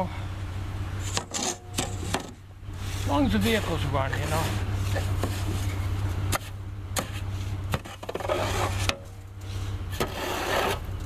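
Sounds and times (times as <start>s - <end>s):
low hum: 0.0s - 11.0s
rake scraping snow off metal: 1.0s - 11.0s.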